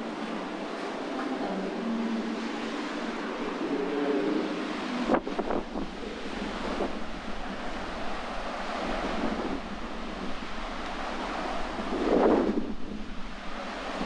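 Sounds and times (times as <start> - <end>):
sea waves washing onto shore: 0.0 - 14.0
wind buffeting microphone: 1.6 - 14.0.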